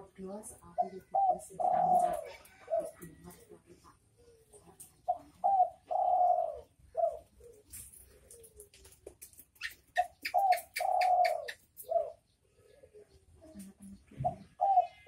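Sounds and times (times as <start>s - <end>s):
dove cooing: 0.7s - 9.0s, 9.6s - 15.0s.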